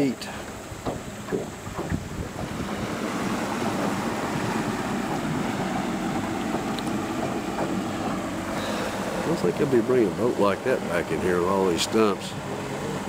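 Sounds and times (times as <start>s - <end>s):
boat motor running: 0.0s - 13.0s
wind buffeting microphone: 0.6s - 13.0s.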